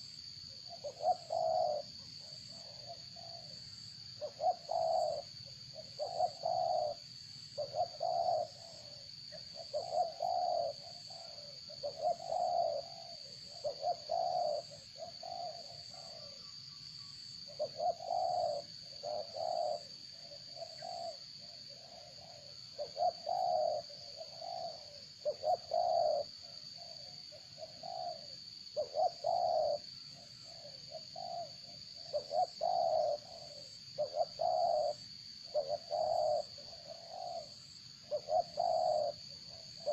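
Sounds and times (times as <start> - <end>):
doves cooing: 0.7 - 3.6, 4.2 - 7.0, 7.6 - 16.5, 17.4 - 39.9.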